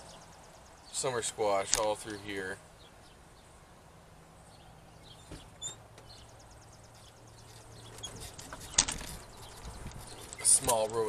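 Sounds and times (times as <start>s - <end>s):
birds chirping faintly: 0.0s - 11.0s
low outdoor hum: 0.0s - 11.0s.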